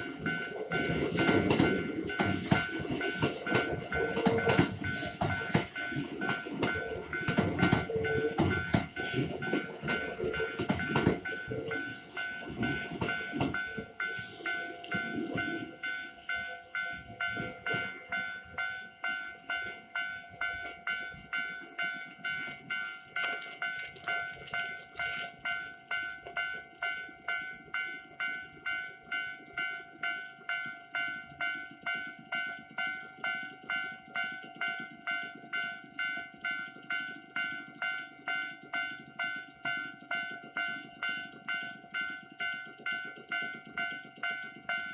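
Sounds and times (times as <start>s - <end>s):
level crossing bell ringing: 0.0s - 44.9s
train rumbling over rails: 0.0s - 44.9s.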